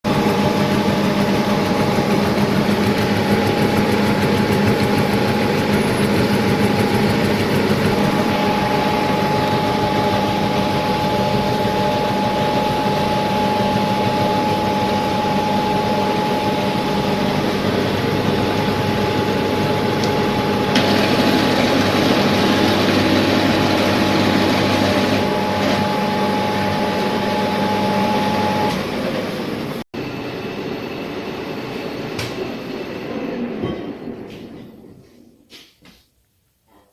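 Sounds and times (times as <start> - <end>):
milling machine whine: 0.1 - 34.9.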